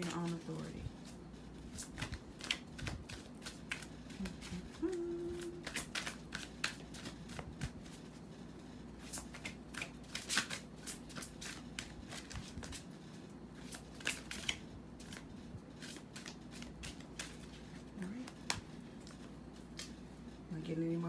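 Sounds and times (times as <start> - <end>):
cards shuffling: 0.0 - 8.2, 9.0 - 13.0, 13.6 - 20.0.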